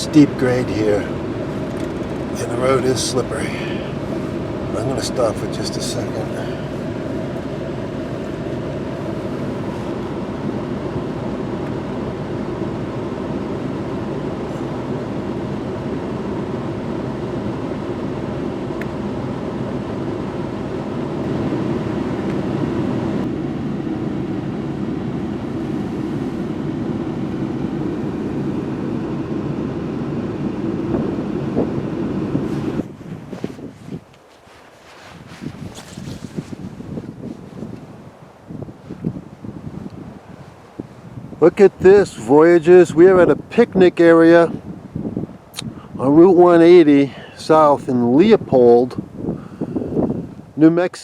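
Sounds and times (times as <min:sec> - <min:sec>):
van engine running: 0:00.0 - 0:51.0.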